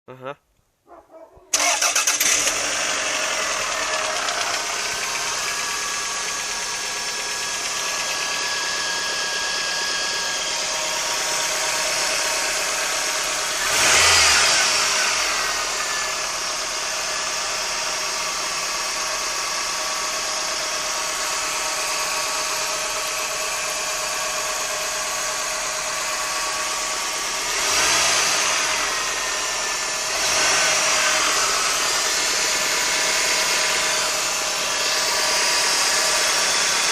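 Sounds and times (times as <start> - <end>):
engine revving: 1.5 - 36.9
car engine idling with knock: 2.8 - 36.9.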